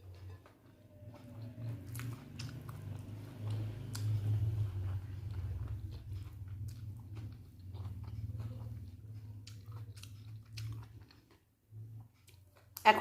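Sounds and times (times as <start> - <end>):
person chewing food: 0.0 - 12.8
steady low hum: 0.0 - 13.0.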